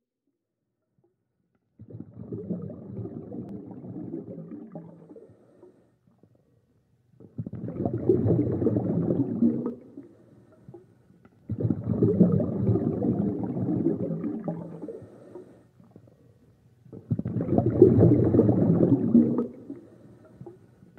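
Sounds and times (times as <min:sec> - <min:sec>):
exhaled air bubbling underwater: 0:01.8 - 0:20.9.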